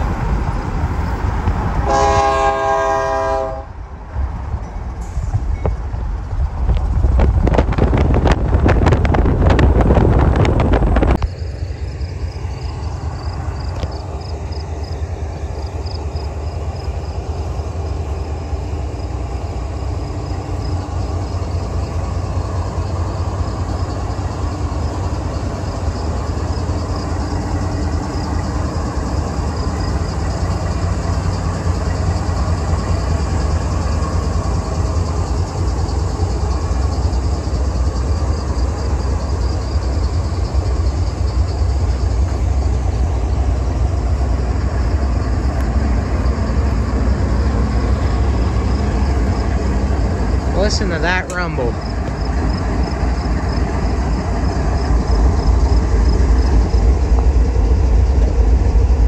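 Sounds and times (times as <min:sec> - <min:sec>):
diesel locomotive engines rumbling: 0:00.0 - 0:59.0
train wheels clattering on rails: 0:04.3 - 0:59.0.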